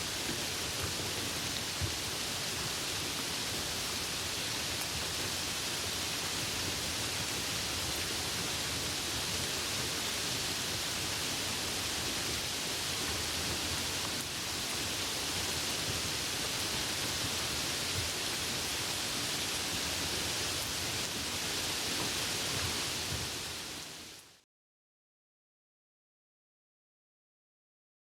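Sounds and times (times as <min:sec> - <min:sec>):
steady rain falling: 0:00.0 - 0:24.4.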